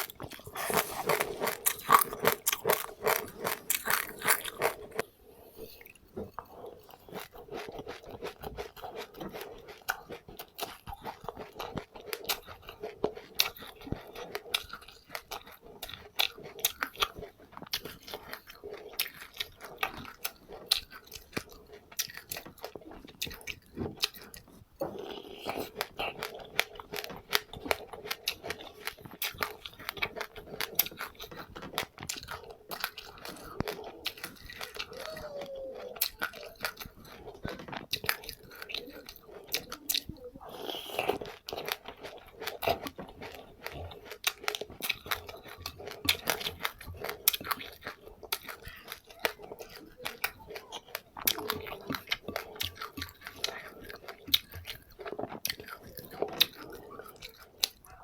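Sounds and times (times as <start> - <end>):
person chewing seeds: 0.0 - 58.0.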